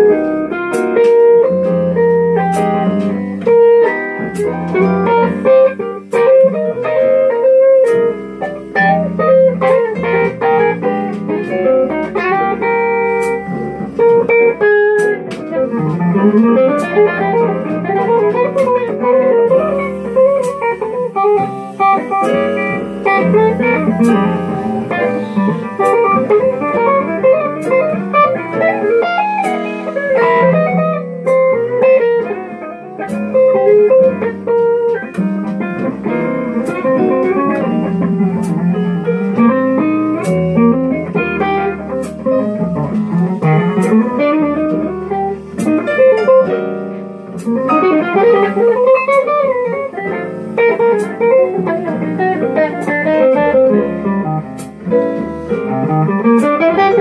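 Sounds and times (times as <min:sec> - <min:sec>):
electric guitar bluesy melody: 0:00.0 - 0:57.0.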